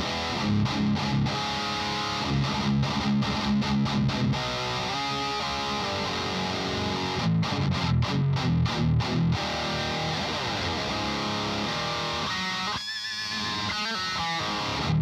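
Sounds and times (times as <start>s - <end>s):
distorted electric guitar riffing: 0.0s - 15.0s.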